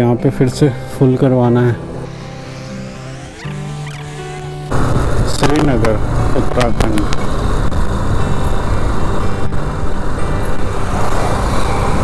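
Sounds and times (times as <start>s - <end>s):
motorcycle engine running: 1.8s - 12.0s
road noise rushing: 1.8s - 12.0s.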